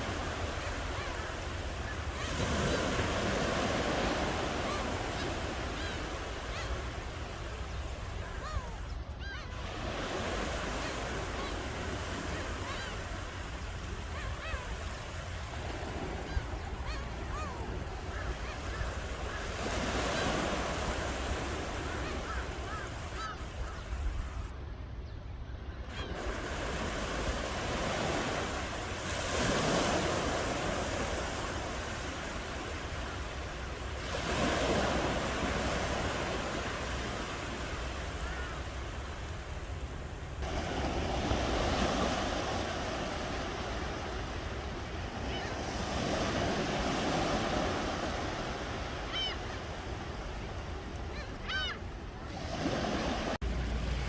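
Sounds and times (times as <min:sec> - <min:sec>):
ocean waves breaking on shore: 0:00.0 - 0:25.0, 0:25.6 - 0:54.0.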